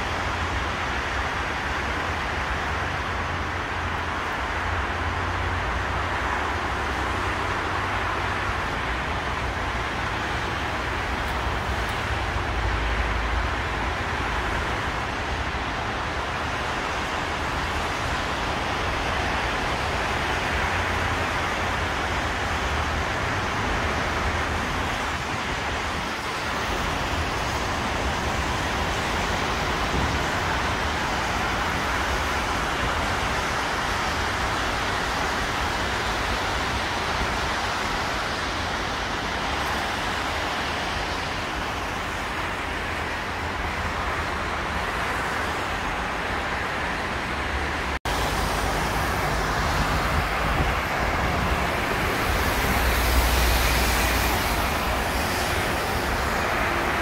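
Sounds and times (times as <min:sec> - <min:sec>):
traffic on wet highway: 0:00.0 - 0:57.0.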